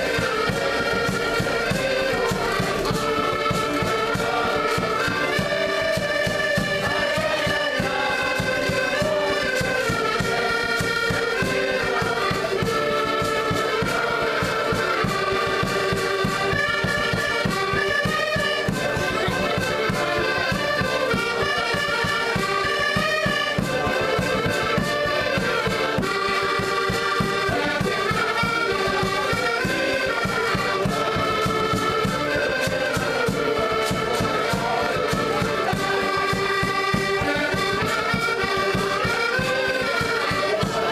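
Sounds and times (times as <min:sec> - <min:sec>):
accordions playing folk tune: 0:00.0 - 0:40.9.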